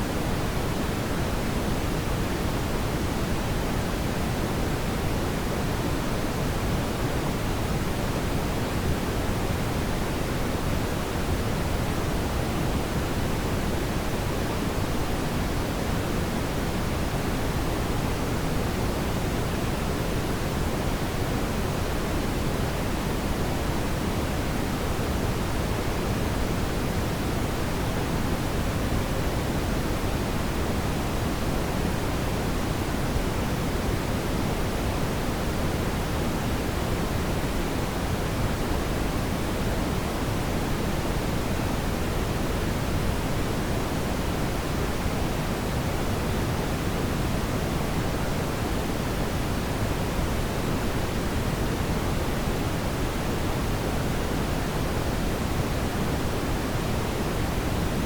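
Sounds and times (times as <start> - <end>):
brown noise hiss: 0.0 - 58.0.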